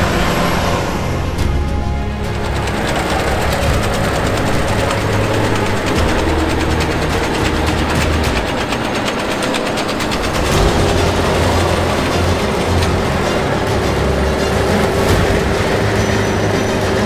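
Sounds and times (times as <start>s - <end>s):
fast mechanical rattle and clatter: 0.0s - 17.0s
harvester engine hum: 0.0s - 17.0s.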